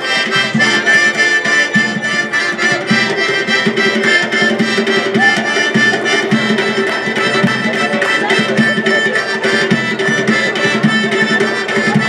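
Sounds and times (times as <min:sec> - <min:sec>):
accordion melody: 0:00.0 - 0:12.0.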